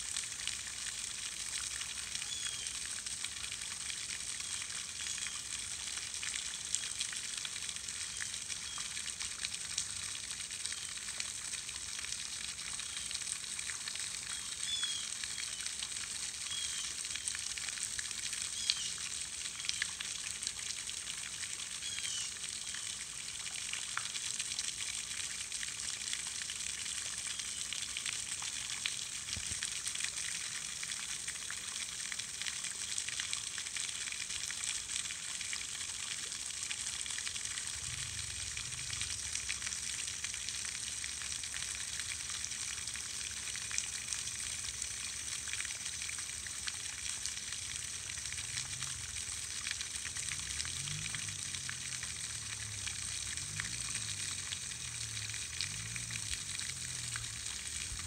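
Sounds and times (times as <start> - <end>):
fountain water splattering: 0.0 - 58.0.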